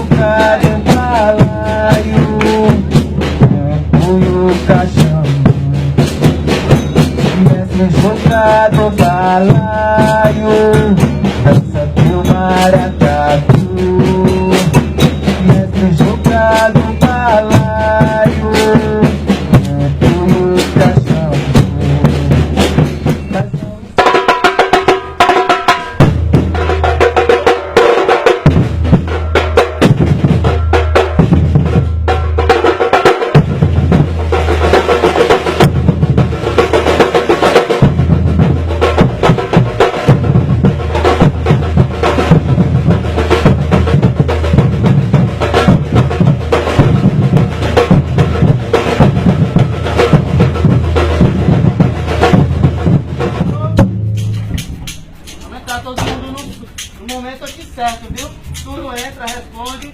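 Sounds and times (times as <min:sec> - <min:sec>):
drum ensemble fast rhythm: 0:00.0 - 0:59.9.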